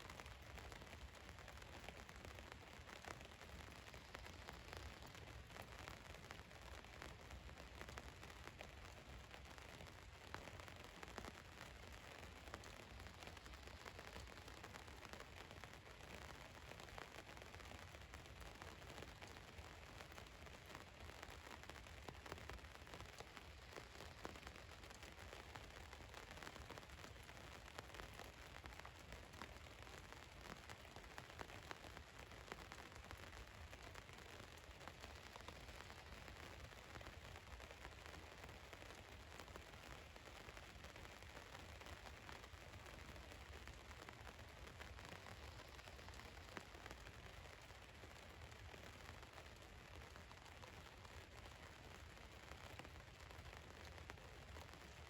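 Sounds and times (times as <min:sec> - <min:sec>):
rain pattering on vehicle roof: 0:00.1 - 0:55.0.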